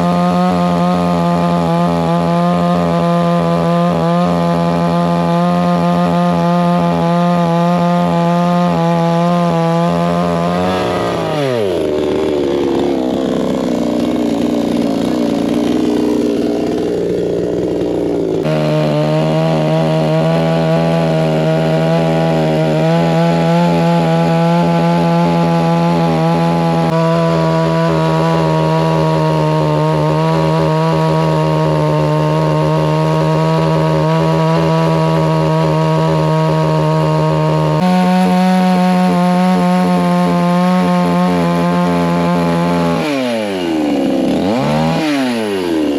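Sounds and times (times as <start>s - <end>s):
chainsaw running: 0.0s - 45.9s.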